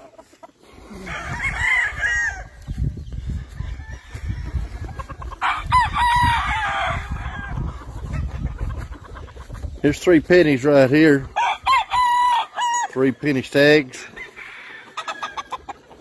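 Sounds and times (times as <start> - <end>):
roosters crowing: 0.0 - 16.0.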